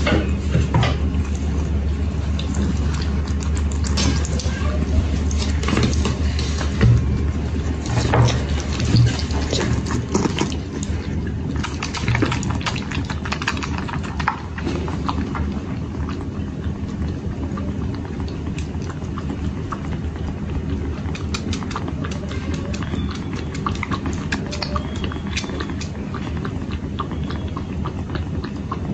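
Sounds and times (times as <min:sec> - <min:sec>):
kittens sucking and smacking: 0:00.0 - 0:28.9
steady low rumble: 0:00.0 - 0:28.9.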